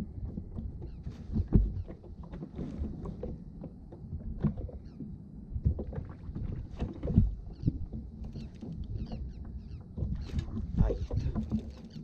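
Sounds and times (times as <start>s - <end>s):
low knocks on hull: 0.0s - 4.9s, 5.6s - 11.7s
water lapping against kayak hull: 0.0s - 12.0s.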